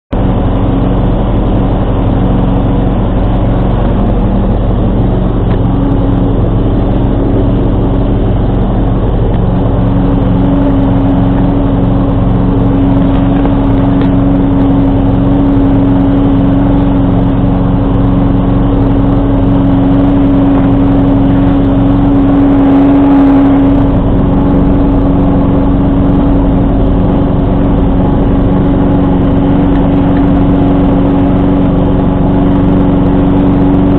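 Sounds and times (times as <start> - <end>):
garden tractor engine running: 0.1 - 33.9.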